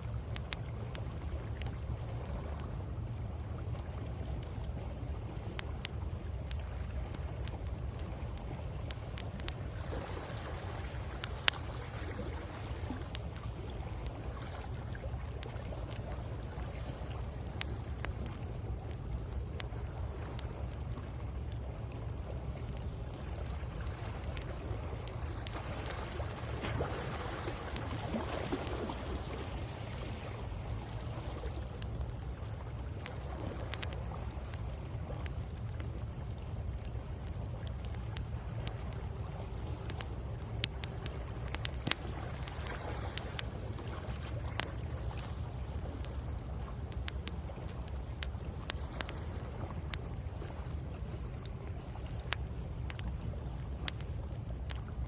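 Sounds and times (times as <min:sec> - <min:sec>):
low rumble of the sea: 0:00.0 - 0:55.0
wood fire crackling and popping: 0:00.0 - 0:55.0.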